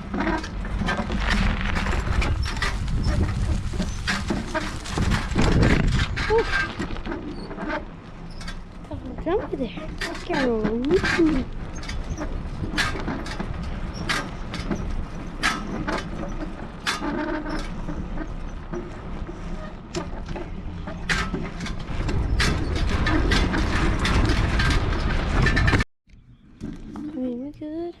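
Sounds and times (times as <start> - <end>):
bike rattles and knocks: 0.0 - 27.7
wind buffeting microphone: 0.0 - 28.0.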